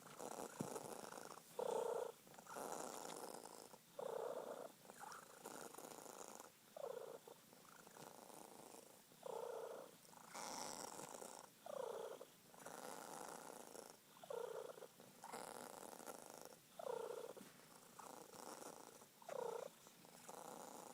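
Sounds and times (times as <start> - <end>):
cat purring: 0.0 - 20.9.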